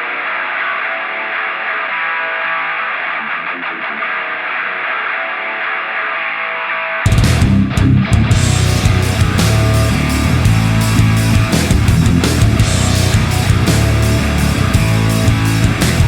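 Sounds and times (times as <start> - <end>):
muffled electric guitar: 0.0 - 16.0
rock band with drums: 0.0 - 16.0.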